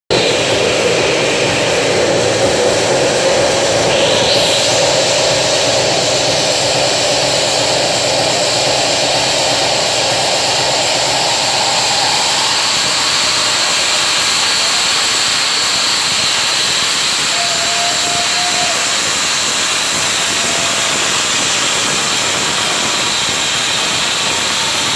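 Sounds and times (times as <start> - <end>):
beatless electronic music wash: 0.1 - 24.9.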